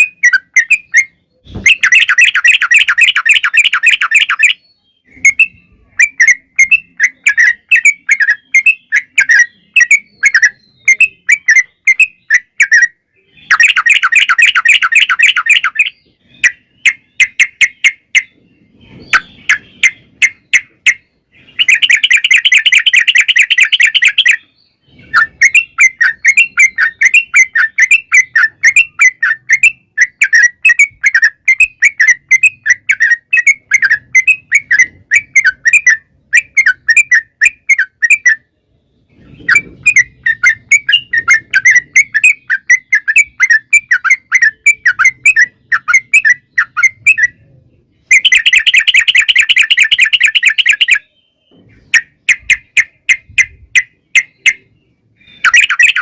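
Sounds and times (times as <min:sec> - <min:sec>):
bird singing chattering notes: 0:00.0 - 0:56.0.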